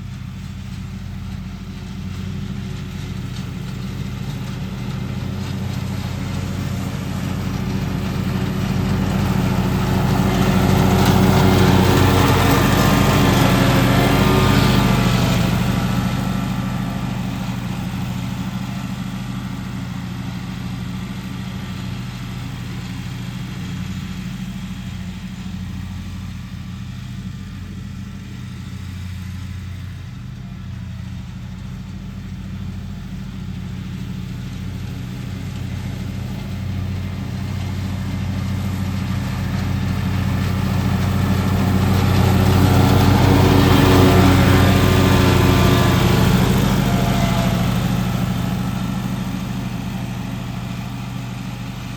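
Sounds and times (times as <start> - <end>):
lawn mower engine running: 0.0 - 51.9.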